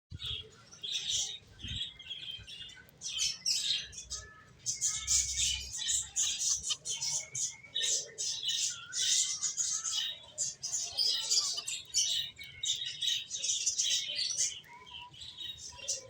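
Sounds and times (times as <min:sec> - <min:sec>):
finches chirping: 0:00.2 - 0:16.0.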